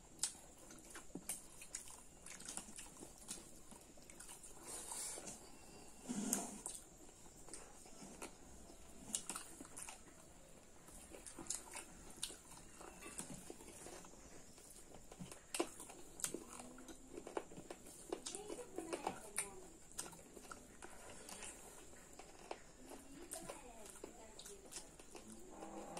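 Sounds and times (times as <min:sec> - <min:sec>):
chewing and mouth clicks: 0:00.0 - 0:25.9.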